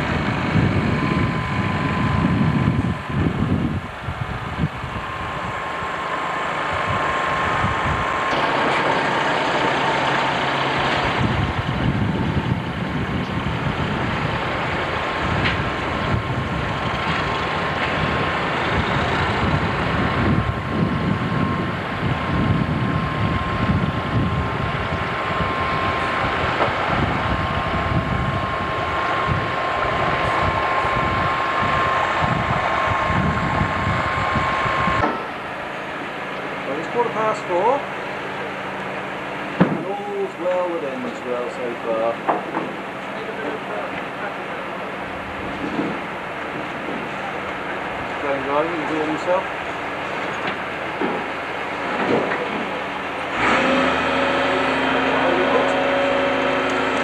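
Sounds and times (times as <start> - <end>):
diesel lorry engine running: 0.0 - 57.0.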